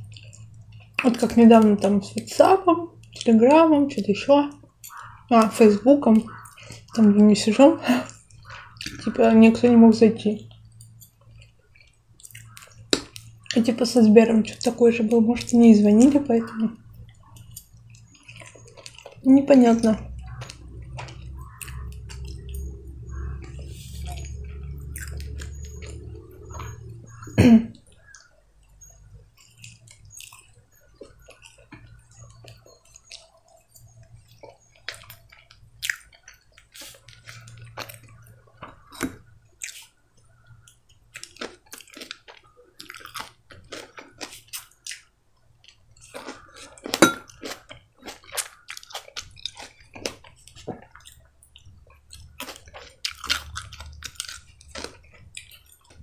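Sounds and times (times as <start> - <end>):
low steady hum: 0.0 - 56.0
wet chewing and mouth smacks: 0.0 - 56.0.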